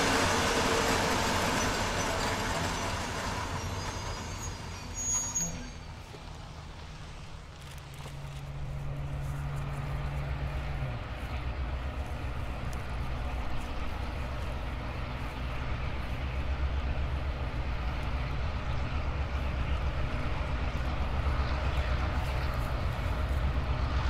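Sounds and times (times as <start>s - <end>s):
distant locomotive engines rumbling: 0.0s - 24.0s.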